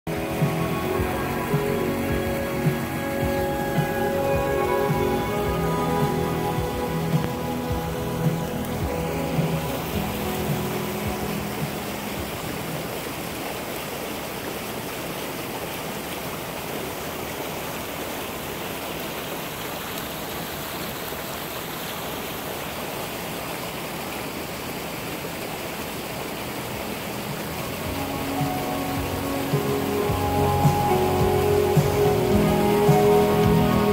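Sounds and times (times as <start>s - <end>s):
creek rushing over rocks: 0.1s - 33.9s.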